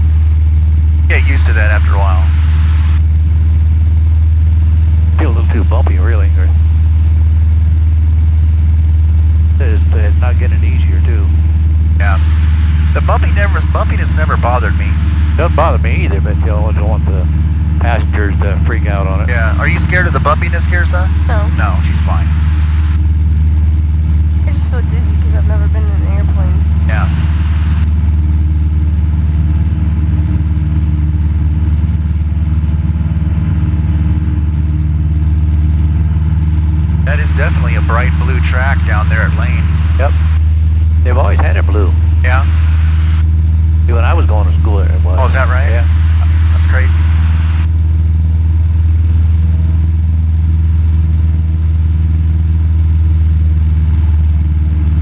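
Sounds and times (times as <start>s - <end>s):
airplane engine and propeller droning: 0.0s - 55.0s.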